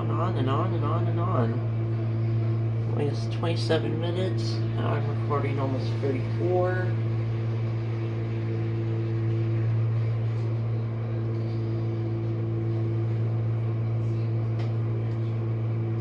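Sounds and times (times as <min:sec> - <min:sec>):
dishwasher motor hum: 0:00.0 - 0:16.0.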